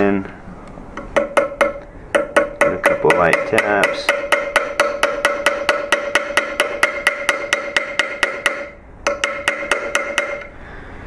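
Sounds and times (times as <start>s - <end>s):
small hammer tapping metal: 1.0s - 10.5s.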